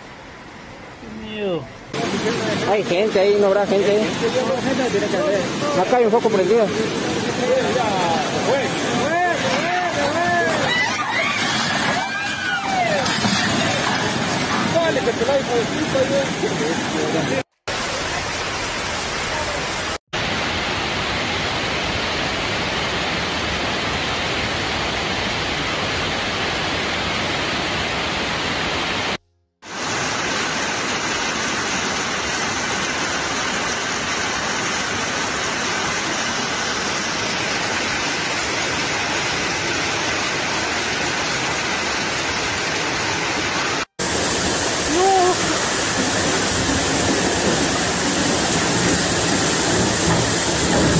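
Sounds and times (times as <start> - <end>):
flood torrent rushing: 0.1 - 50.9.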